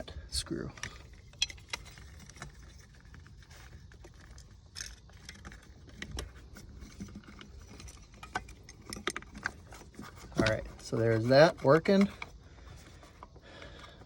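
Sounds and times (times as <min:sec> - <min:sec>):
small metal parts clicking: 0:00.6 - 0:14.0.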